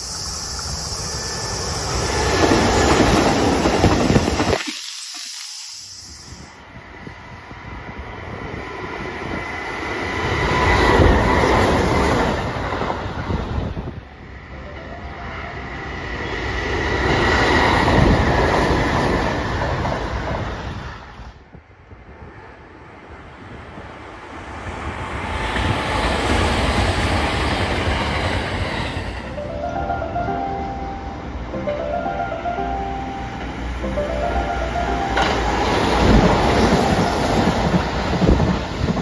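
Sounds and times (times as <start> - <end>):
electric trains passing at speed: 0.0 - 39.0.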